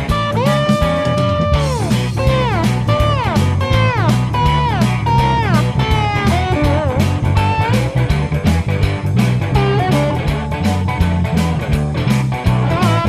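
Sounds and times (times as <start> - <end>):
bass: 0.0 - 13.0
bluesy electric guitar lead: 0.0 - 13.0
steady beat: 0.0 - 13.0.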